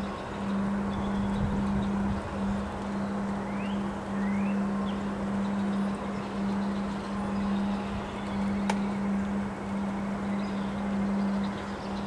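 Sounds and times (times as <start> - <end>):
steady low hum: 0.0 - 12.0
wind gusting through trees: 0.0 - 12.0.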